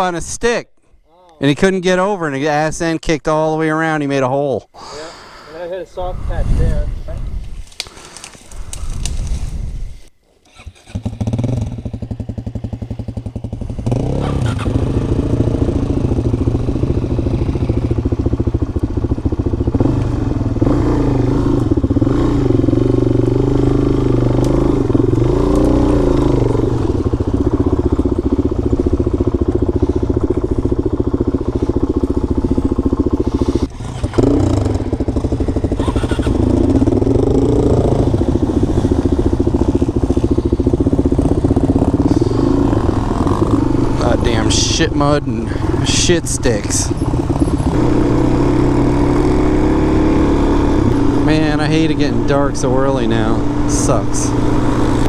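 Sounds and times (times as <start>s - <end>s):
motorcycle engine revving: 10.5s - 55.0s.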